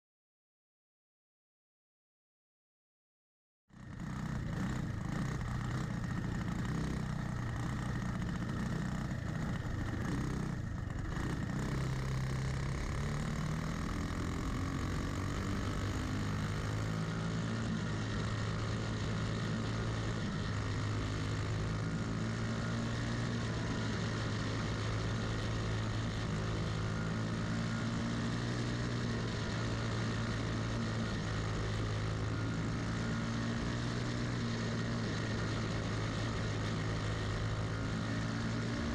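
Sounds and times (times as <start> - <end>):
kart engine running: 3.8 - 38.9.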